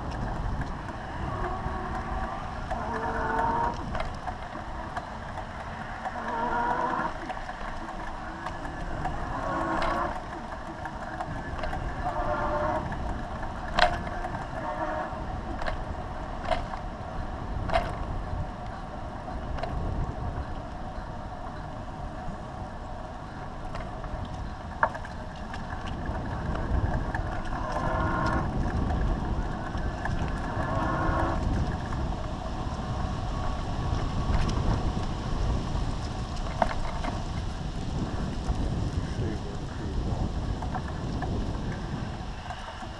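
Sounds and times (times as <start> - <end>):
bicycle tyres rumbling on asphalt: 0.0 - 42.9
bike clicks and knocks over bumps: 0.0 - 42.9
wind on microphone: 0.0 - 42.9.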